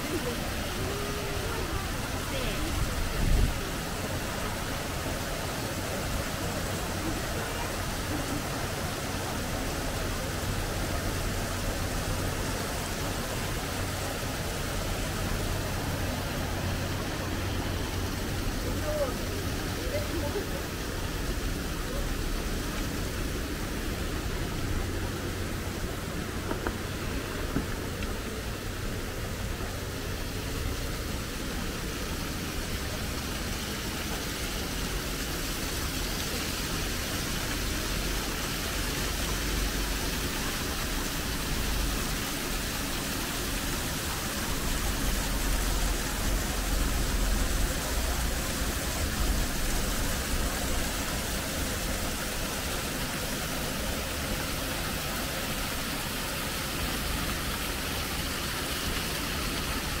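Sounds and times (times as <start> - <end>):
water rushing through wooden channels: 0.0 - 60.0.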